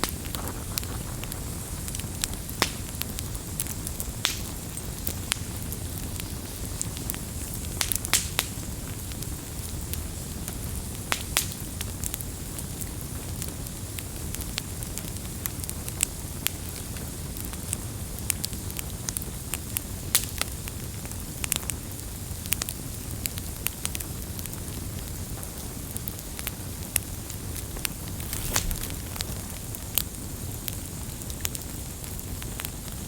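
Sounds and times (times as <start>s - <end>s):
low rumble of flames: 0.0s - 21.3s, 22.2s - 32.9s
campfire crackling and popping: 0.0s - 33.0s.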